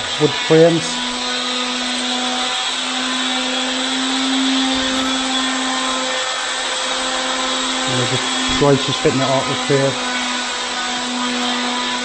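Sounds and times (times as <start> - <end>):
power tool motor whining: 0.0 - 12.0.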